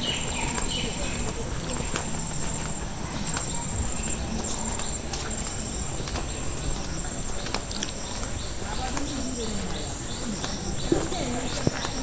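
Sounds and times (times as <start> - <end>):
insects droning: 0.0 - 12.0
outdoor hum: 0.0 - 12.0.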